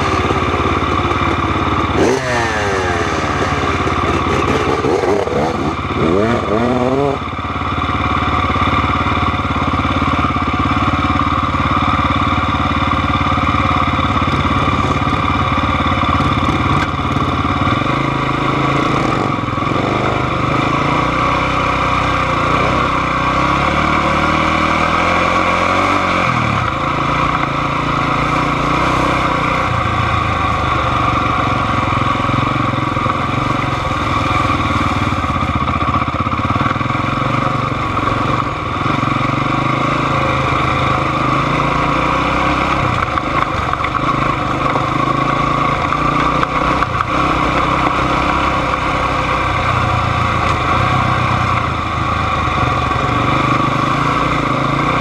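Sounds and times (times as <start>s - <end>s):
atv engine idling and revving: 0.0s - 55.0s.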